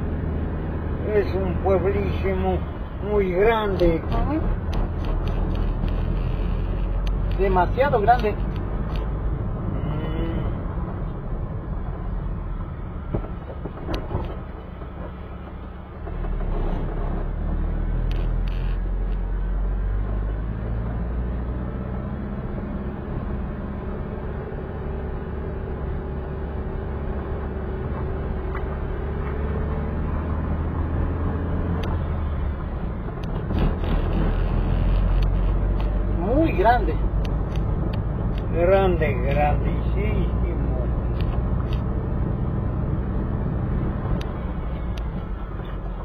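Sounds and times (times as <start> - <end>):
car engine running: 0.0 - 46.0
road rumble: 0.0 - 46.0.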